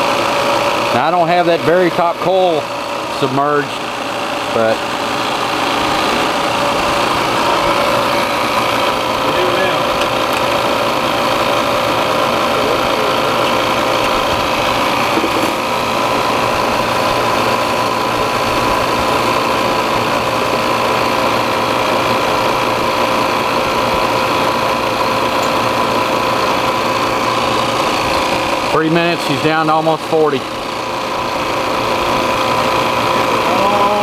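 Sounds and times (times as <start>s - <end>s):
compressor machine hum and whine: 0.0s - 34.0s.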